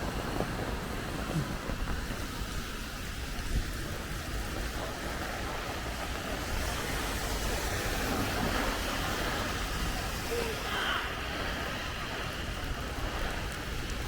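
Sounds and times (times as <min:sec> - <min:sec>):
steady rain falling: 0:00.0 - 0:14.0
wind buffeting microphone: 0:00.0 - 0:14.0.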